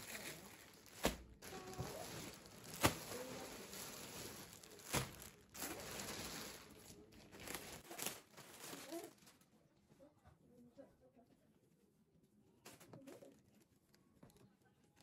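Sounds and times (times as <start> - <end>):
rustling and crinkling handling: 0.0 - 10.2, 12.6 - 15.0.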